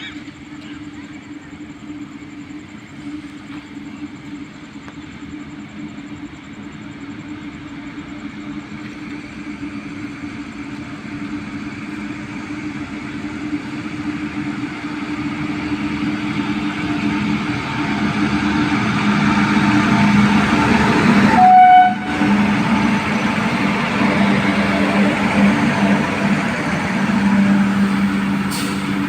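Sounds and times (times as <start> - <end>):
locomotive engine drone: 0.0 - 29.0.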